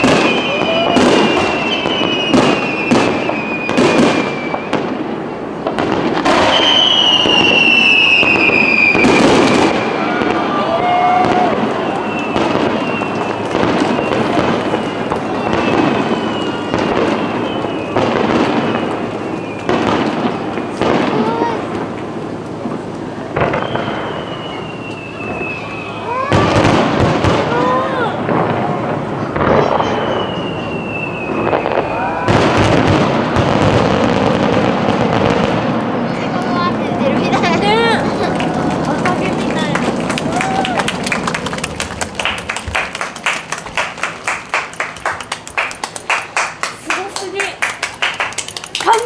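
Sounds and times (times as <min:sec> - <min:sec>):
fireworks whistles: 0:00.0 - 0:35.7, 0:37.3 - 0:49.0
fireworks bangs: 0:00.0 - 0:49.0
fireworks crackling: 0:00.0 - 0:49.0.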